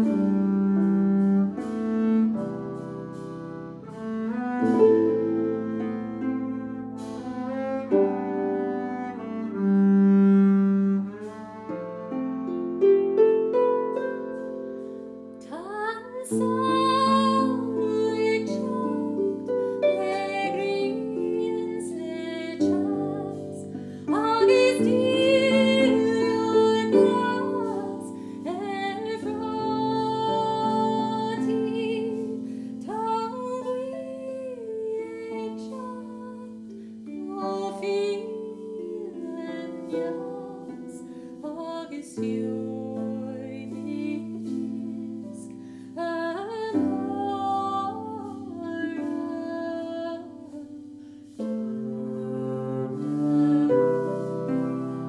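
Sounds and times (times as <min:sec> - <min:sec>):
bowed double bass: 0:00.0 - 0:55.0
harp plucked notes: 0:00.0 - 0:55.0
sliding melody with vibrato: 0:00.0 - 0:55.0.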